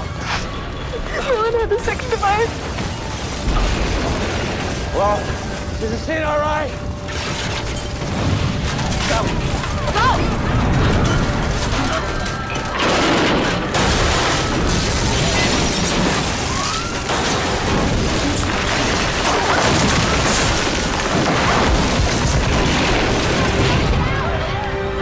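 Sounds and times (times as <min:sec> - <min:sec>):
rumbling and crashing: 0:00.0 - 0:25.0.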